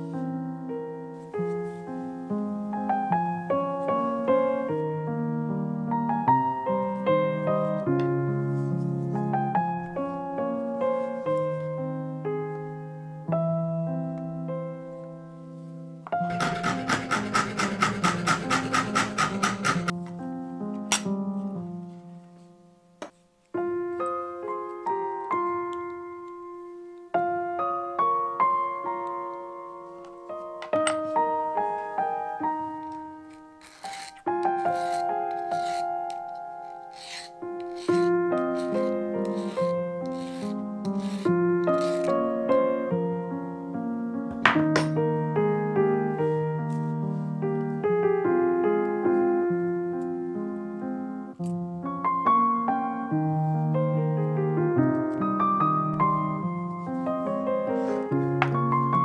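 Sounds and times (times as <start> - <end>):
gentle piano melody: 0.0 - 59.0.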